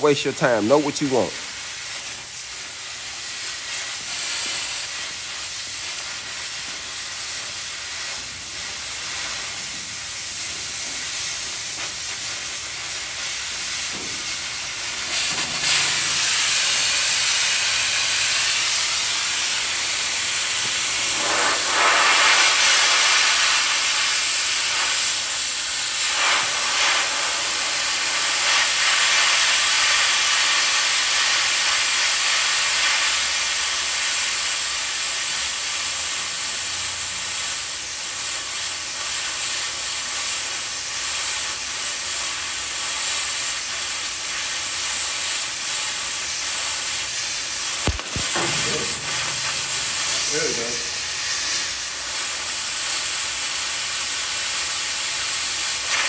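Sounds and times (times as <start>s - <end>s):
cutting torch flame hissing: 0.0s - 56.0s.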